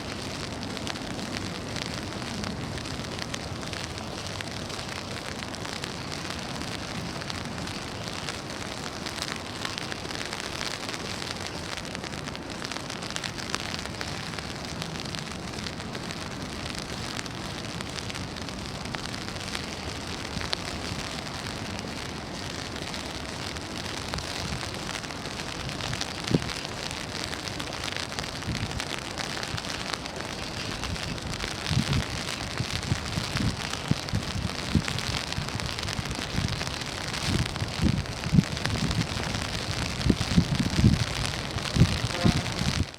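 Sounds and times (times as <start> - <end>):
rain on an umbrella: 0.0 - 42.9.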